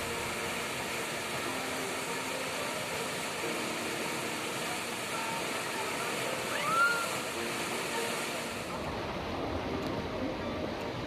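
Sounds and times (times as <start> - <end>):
river rapid rushing: 0.0 - 11.0.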